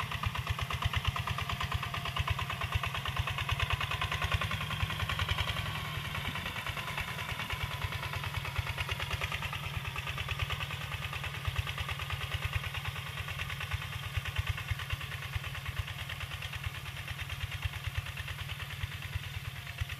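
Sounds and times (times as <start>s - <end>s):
diesel engine chugging: 0.0s - 19.9s.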